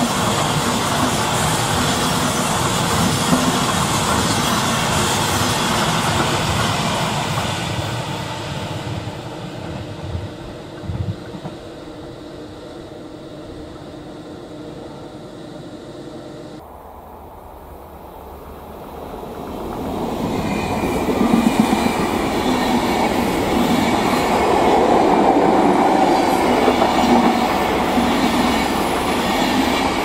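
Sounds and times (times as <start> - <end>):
train wheels rolling: 0.0 - 13.9, 17.9 - 30.0.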